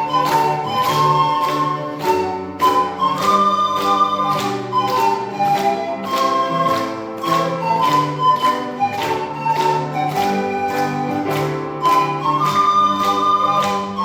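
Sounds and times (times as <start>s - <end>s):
pan flute melody: 0.0s - 14.0s.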